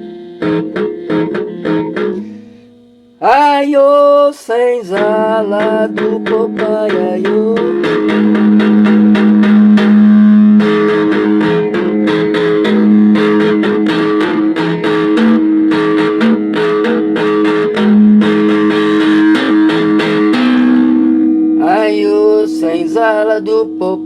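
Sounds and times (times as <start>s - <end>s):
plucked guitar music: 0.0s - 24.0s.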